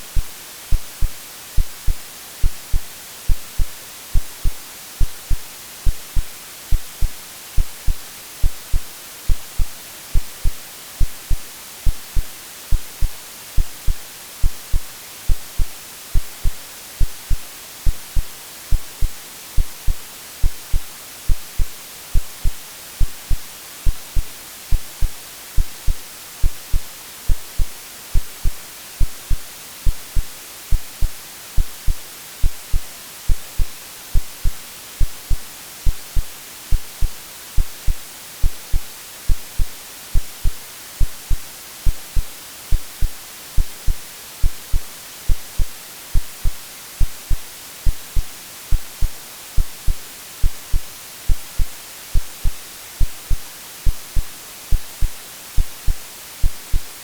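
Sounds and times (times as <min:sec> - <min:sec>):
heartbeat thumps: 0:00.0 - 0:56.9
white noise hiss: 0:00.0 - 0:57.0.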